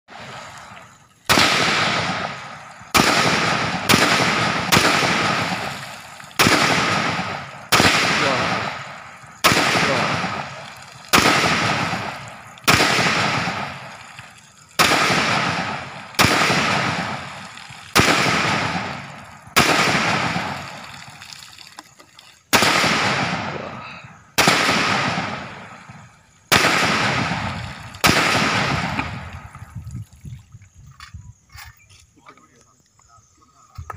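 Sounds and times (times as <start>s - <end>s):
rifle shots with echo: 0.1s - 21.2s, 22.5s - 29.5s.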